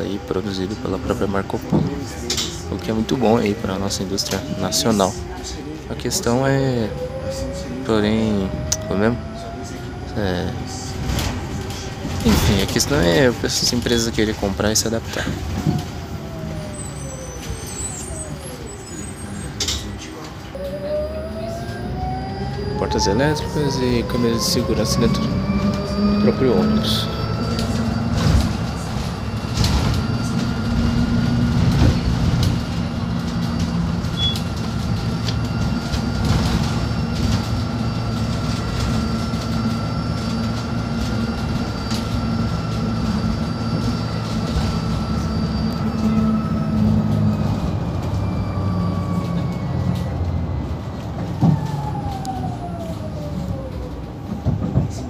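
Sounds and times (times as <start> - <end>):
road rumble: 0.0 - 55.0.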